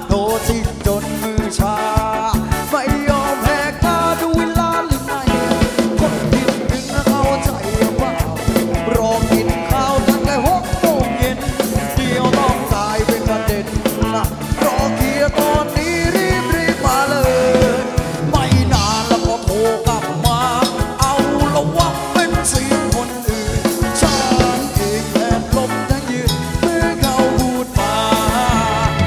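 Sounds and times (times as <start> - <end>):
dance band music: 0.0 - 29.0.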